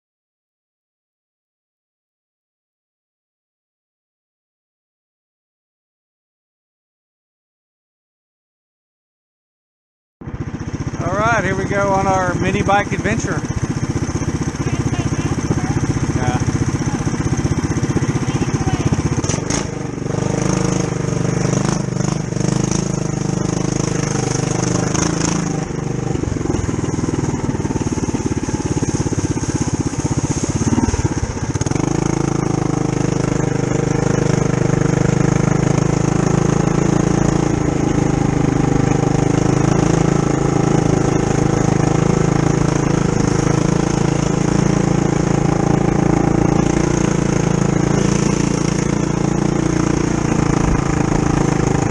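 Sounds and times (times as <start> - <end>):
mini bike engine running: 10.2 - 51.9.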